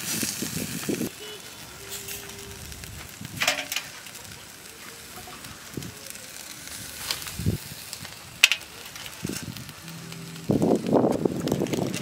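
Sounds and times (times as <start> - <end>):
charcoal grill hiss: 0.0 - 12.0.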